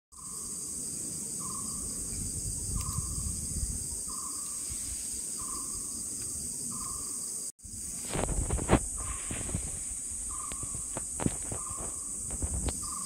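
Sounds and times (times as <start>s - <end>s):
insects droning: 0.1s - 13.0s.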